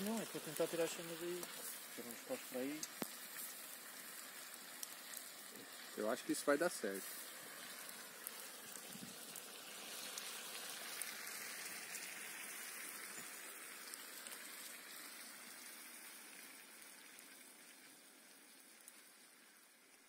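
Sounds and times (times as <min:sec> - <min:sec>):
campfire hissing and crackling: 0:00.0 - 0:20.0.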